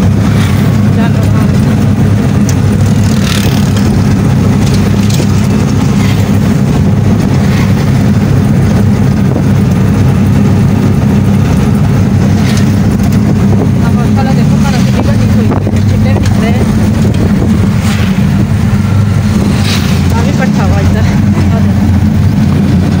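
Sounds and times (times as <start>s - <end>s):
road noise: 0.0s - 23.0s
vehicle engine drone: 0.0s - 23.0s.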